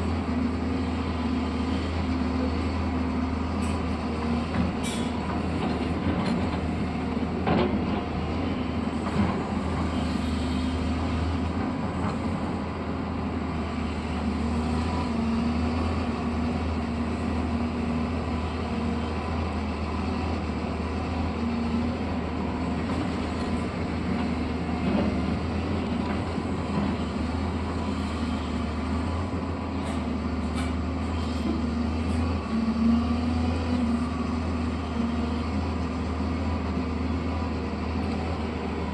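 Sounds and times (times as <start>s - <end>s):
construction machine engine running: 0.0s - 38.9s.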